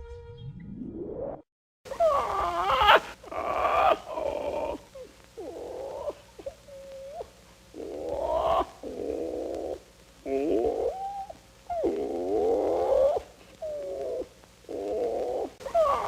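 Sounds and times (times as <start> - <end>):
parrot squawking: 1.9 - 16.0.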